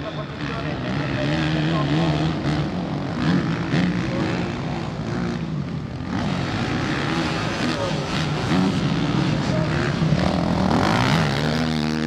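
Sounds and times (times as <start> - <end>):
motocross motorcycle engines revving: 0.0 - 12.0.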